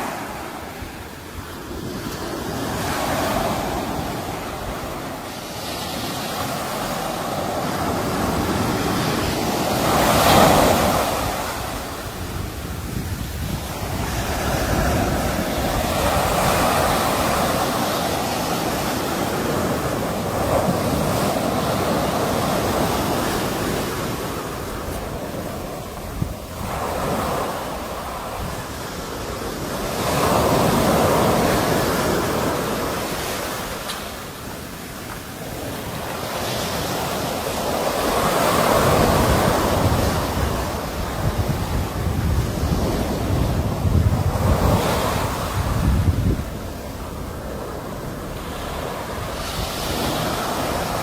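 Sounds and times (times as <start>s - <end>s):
sea waves breaking on shore: 0.0s - 51.0s
wind: 0.0s - 51.0s.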